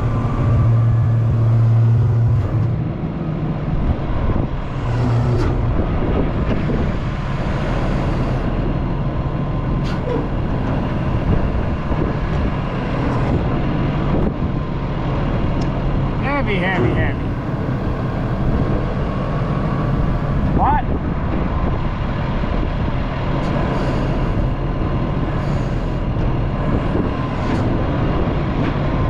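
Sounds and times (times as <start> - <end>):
heavy machine diesel engine running: 0.0 - 29.0.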